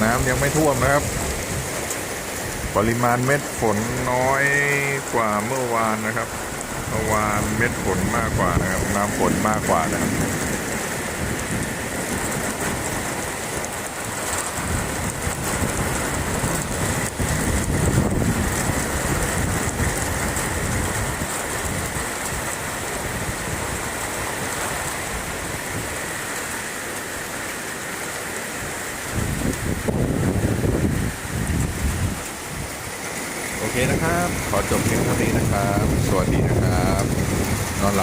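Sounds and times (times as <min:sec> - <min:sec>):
thunder rumbles: 0:00.0 - 0:05.2, 0:06.0 - 0:27.2, 0:28.7 - 0:38.0
heavy rain pouring: 0:00.0 - 0:38.0.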